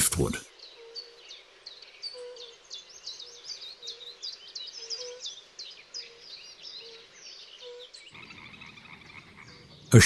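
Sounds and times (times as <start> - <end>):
small birds chirping and trilling: 0.1 - 10.0.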